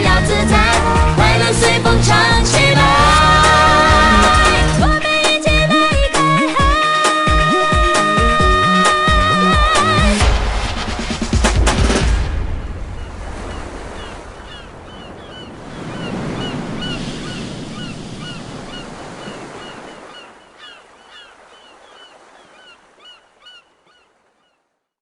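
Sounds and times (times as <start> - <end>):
ocean surf washing ashore: 0.0 - 5.5, 6.1 - 23.2.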